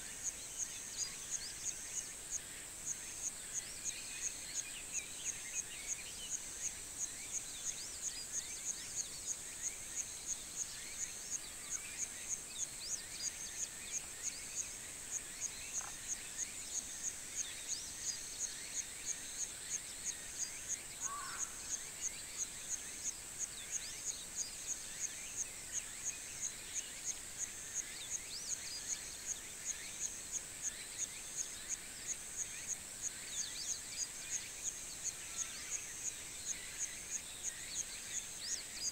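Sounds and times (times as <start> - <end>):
pulsing insect song: 0.0 - 38.9.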